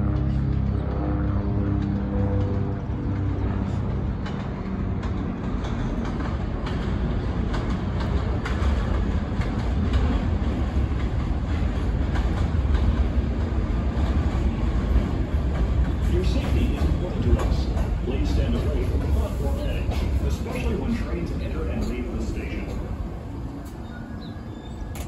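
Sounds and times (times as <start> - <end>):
train rumble: 0.0 - 25.0
wheels clicking over rail joints: 3.8 - 23.8.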